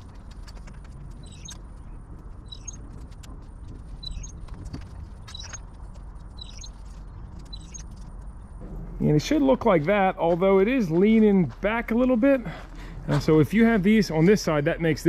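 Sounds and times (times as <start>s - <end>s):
outdoor rumble: 0.0s - 15.0s.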